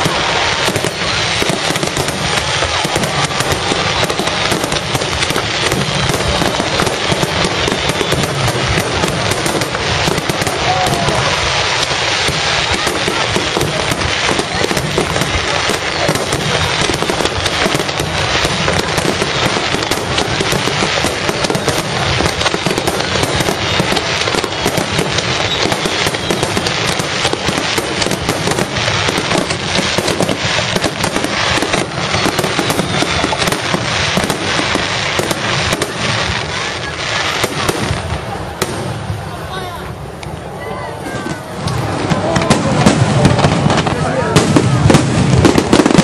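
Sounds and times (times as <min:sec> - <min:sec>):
fireworks bursting and crackling: 0:00.0 - 0:46.0.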